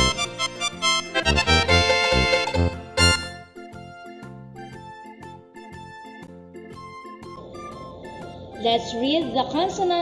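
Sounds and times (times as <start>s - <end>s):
bouncy keyboard tune: 0.0s - 10.0s.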